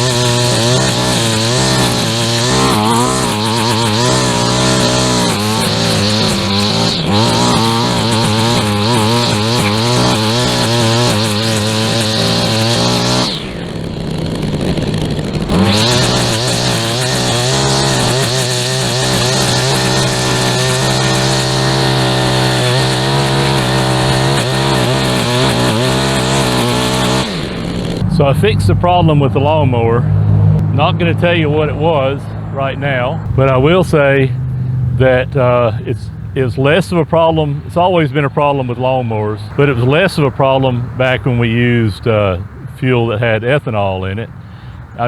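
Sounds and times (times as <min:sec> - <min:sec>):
lawn mower engine running: 0:00.0 - 0:43.4.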